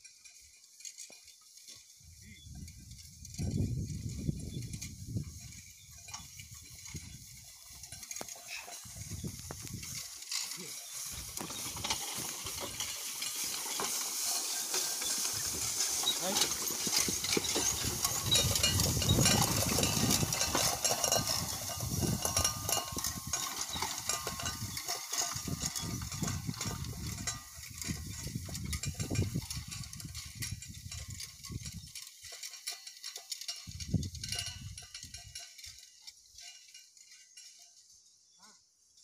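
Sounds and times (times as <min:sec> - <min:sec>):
hay rake rattling: 0:00.0 - 0:38.2.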